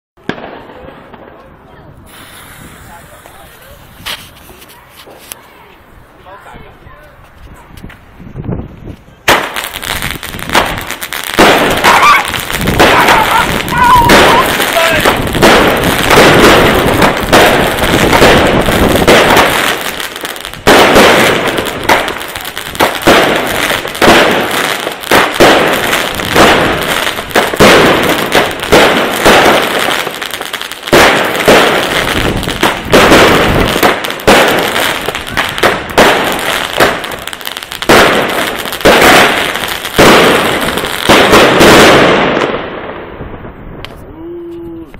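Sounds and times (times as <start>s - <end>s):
firework bangs: 0.2s - 5.5s, 9.2s - 44.1s.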